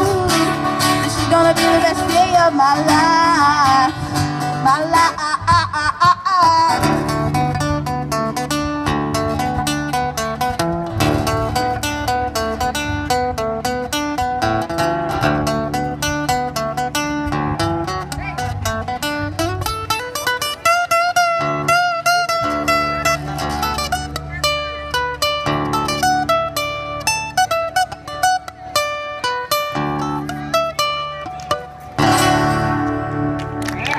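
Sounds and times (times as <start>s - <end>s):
acoustic guitar melody: 0.0s - 33.9s.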